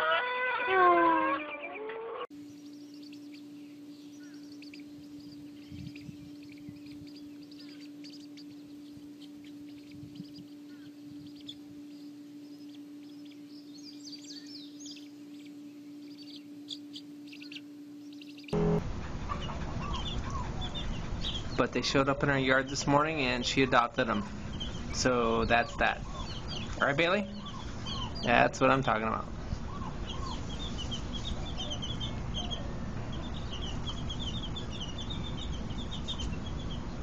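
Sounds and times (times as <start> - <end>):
high bird chirps: 1.4 - 37.0
steady low hum: 2.3 - 37.0.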